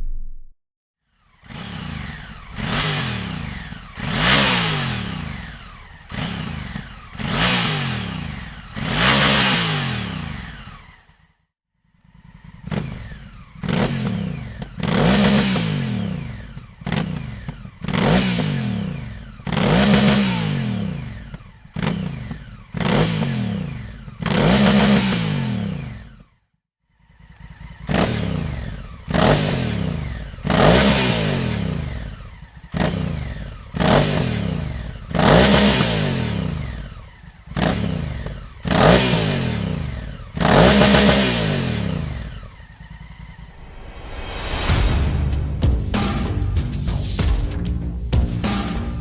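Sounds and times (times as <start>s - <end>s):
motorcycle engine revving: 1.0s - 44.1s.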